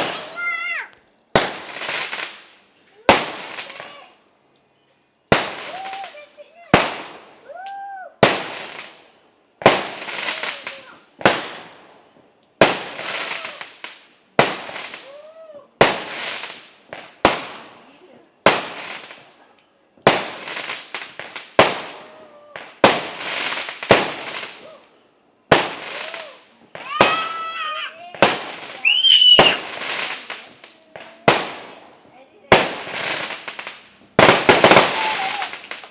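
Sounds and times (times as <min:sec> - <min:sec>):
fireworks banging and crackling: 0:00.0 - 0:04.2, 0:05.2 - 0:24.8, 0:25.4 - 0:35.9.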